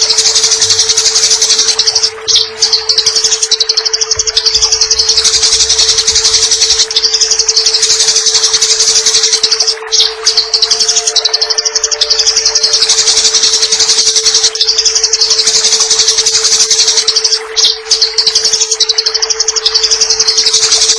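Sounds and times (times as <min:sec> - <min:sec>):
low hum: 0:00.0 - 0:20.9
sparrows chattering: 0:00.0 - 0:20.9.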